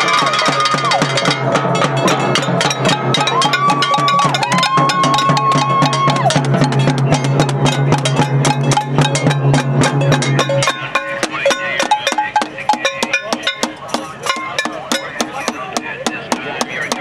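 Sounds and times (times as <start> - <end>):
drums and objects banged: 0.0 - 17.0.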